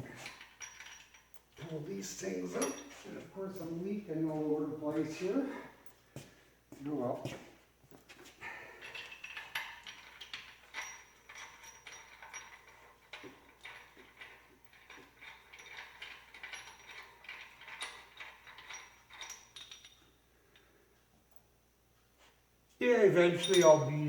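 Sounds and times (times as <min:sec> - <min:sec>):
light metallic clinks: 0:00.0 - 0:06.2, 0:08.4 - 0:21.6, 0:23.2 - 0:24.0.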